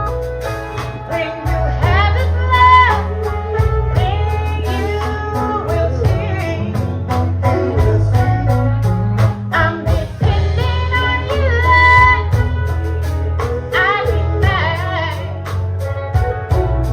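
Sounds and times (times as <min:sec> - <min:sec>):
drums: 0:00.0 - 0:16.9
electric bass: 0:00.0 - 0:16.9
guitar: 0:00.0 - 0:16.9
person singing: 0:00.0 - 0:16.9.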